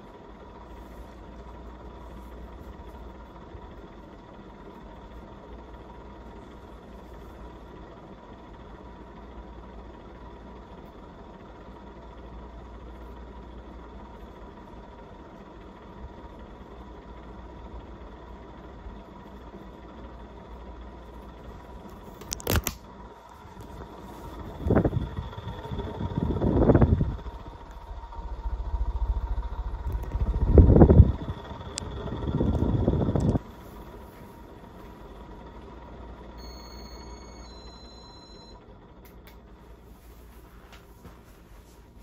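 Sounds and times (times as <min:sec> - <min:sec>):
ceiling fan running: 0:00.0 - 0:42.0.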